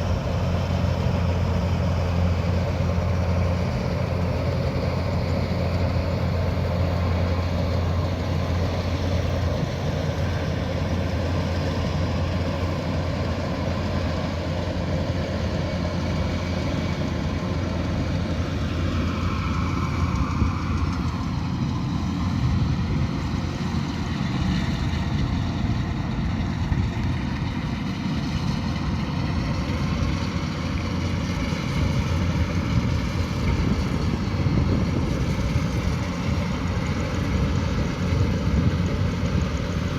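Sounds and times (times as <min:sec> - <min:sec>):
diesel engine humming: 0:00.0 - 0:39.9
threshing machinery whine: 0:00.0 - 0:39.9.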